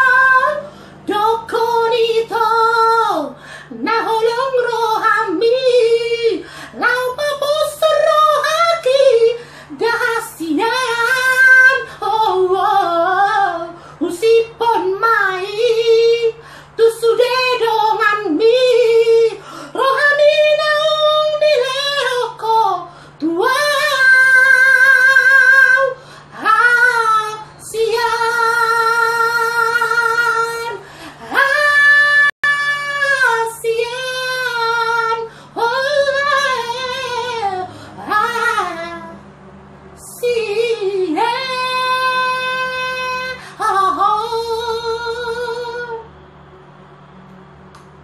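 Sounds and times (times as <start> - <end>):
person singing unaccompanied: 0.0 - 39.2, 40.0 - 46.1.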